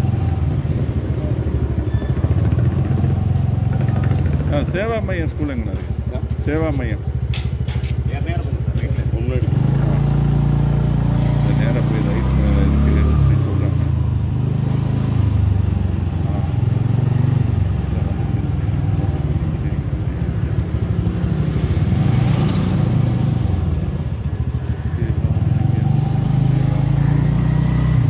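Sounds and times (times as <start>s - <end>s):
motorbike engine running: 0.0s - 28.0s.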